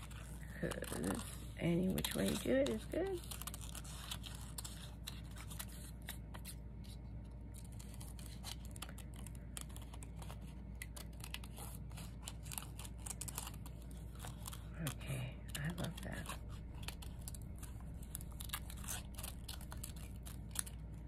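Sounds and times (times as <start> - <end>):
scissors snipping paper: 0.0 - 6.5, 7.6 - 20.9.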